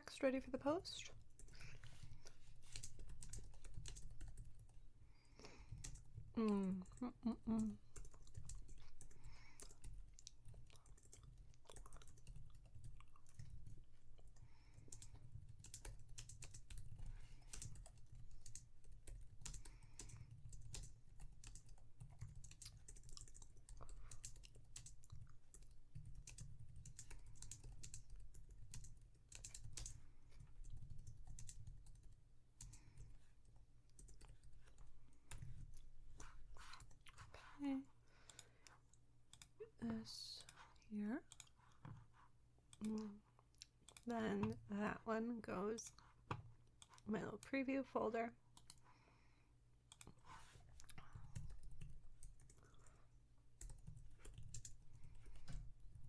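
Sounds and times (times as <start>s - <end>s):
computer keyboard typing: 0.3s - 42.1s, 42.7s - 44.8s, 48.5s - 49.0s, 49.8s - 56.0s.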